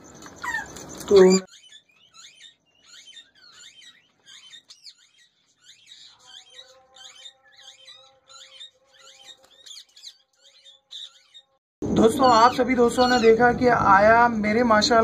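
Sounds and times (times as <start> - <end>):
parakeets chirping: 0.0 - 14.1.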